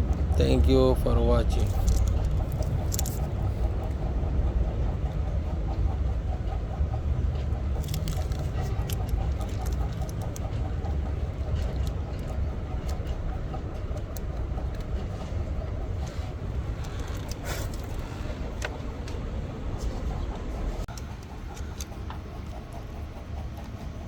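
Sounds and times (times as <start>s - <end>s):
car engine rumbling: 0.0s - 22.2s.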